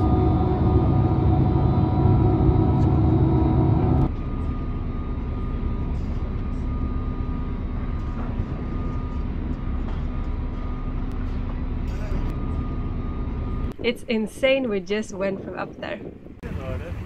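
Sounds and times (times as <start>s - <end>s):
loud multi-tone hum: 0.0s - 17.0s
low mechanical rumble: 0.0s - 17.0s.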